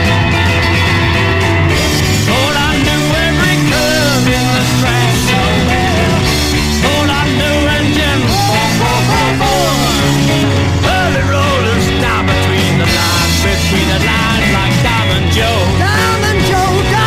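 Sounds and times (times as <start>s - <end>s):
lead guitar with pitch bends: 0.0s - 17.0s
rock band playing: 0.0s - 17.0s.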